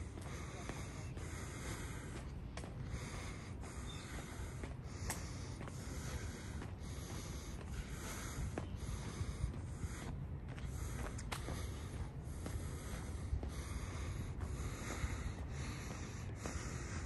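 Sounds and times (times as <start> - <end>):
steady rushing hiss: 0.0 - 17.0.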